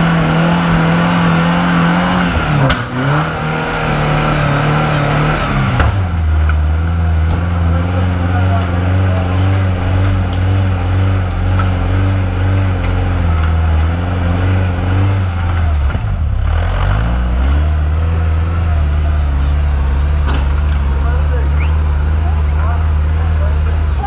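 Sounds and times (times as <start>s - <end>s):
buggy engine running: 0.0s - 24.0s.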